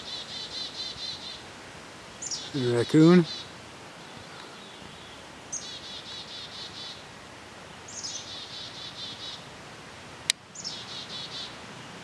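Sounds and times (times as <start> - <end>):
songbird singing: 0.0 - 9.6, 10.2 - 12.0
faint woodland hiss: 0.0 - 12.0.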